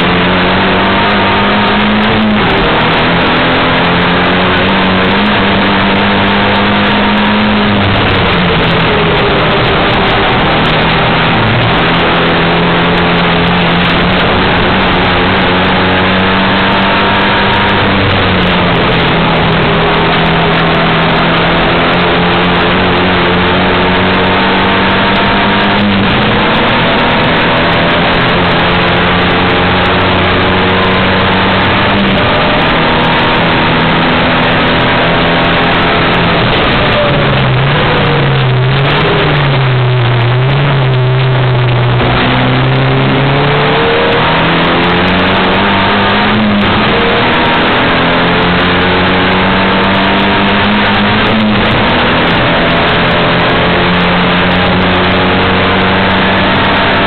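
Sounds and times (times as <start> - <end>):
race car engine from cabin: 0.0 - 57.0
wind and road noise: 0.0 - 57.0.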